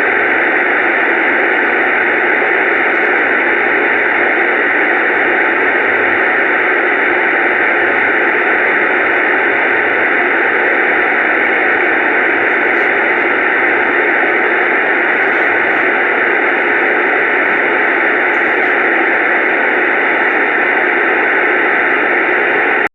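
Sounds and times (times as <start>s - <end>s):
loud static hiss: 0.0s - 22.9s.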